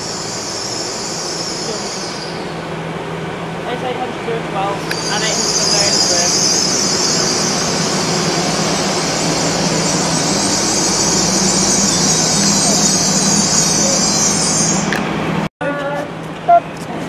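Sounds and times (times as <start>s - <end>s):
train moving slowly: 0.0s - 17.0s.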